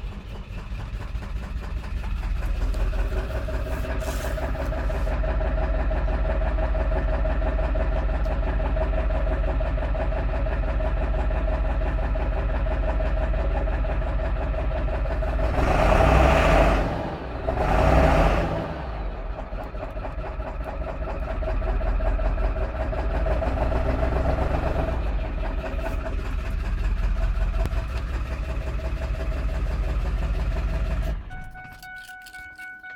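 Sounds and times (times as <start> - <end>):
car engine idling roughly: 0.0 - 32.9.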